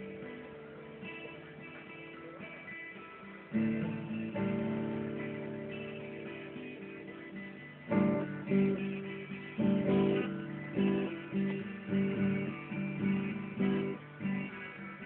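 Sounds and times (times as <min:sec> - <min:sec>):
twelve-string acoustic guitar chords: 0:00.0 - 0:15.0.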